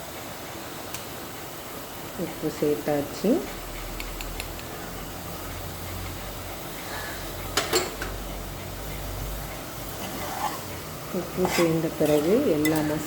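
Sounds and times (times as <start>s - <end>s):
steady low hum: 1.2s - 13.0s.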